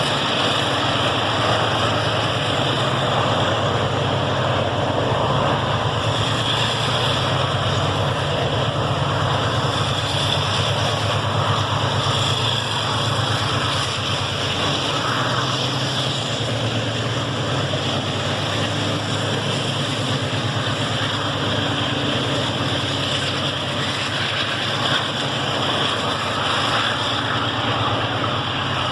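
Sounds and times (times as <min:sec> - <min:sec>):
train running by: 0:00.0 - 0:28.9.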